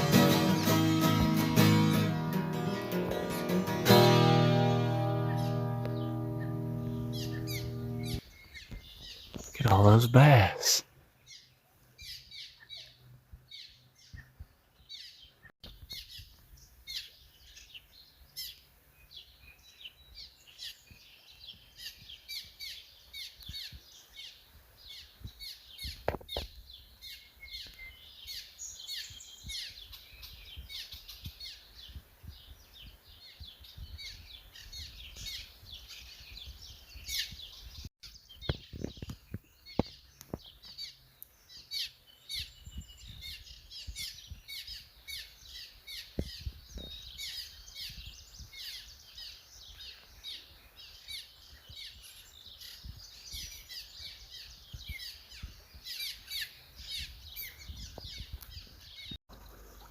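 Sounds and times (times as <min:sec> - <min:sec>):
birds chirping and singing: 0:00.0 - 0:59.2.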